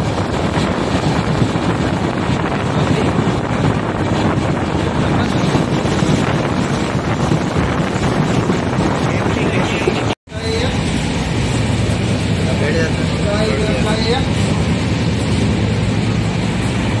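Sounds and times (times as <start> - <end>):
moving train running noise: 0.0 - 17.0
wind buffeting microphone: 0.0 - 17.0.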